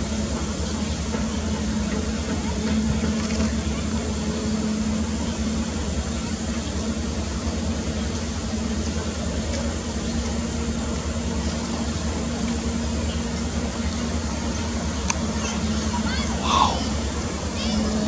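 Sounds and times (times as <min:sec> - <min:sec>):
constant hum: 0:00.0 - 0:18.0
low mechanical rumble: 0:00.0 - 0:18.0.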